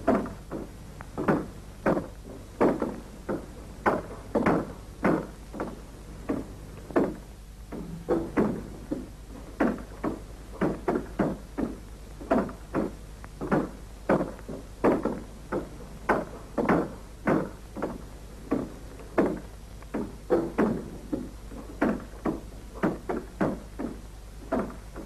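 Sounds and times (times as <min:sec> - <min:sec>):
low steady hum: 0:00.0 - 0:25.0
short knocks: 0:00.0 - 0:25.0.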